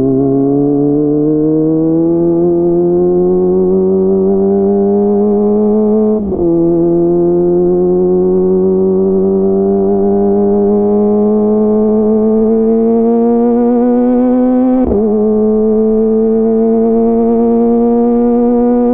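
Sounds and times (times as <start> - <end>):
motorcycle engine accelerating: 0.0 - 18.9.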